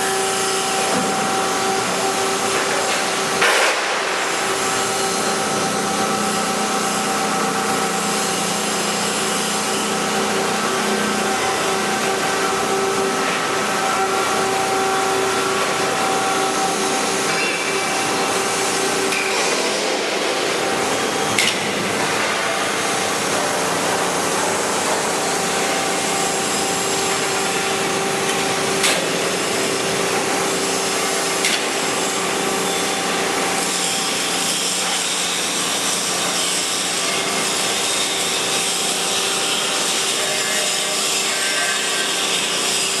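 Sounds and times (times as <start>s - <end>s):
bending machine running: 0.0s - 42.9s.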